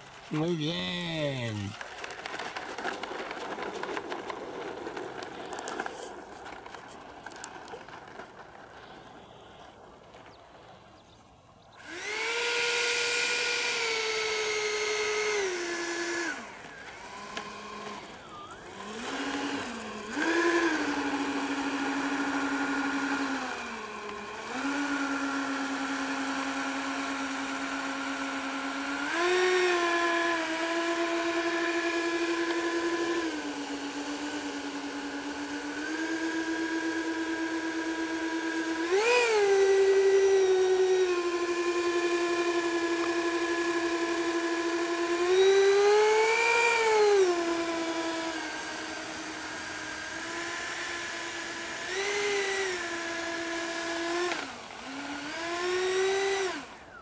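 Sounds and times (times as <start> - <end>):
electric fan motors whining: 0.0 - 10.9, 11.5 - 57.0.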